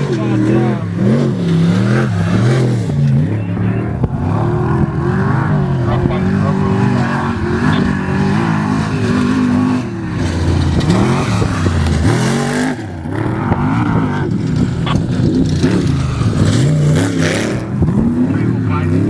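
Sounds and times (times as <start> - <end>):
race vehicle engine revving: 0.0 - 19.0.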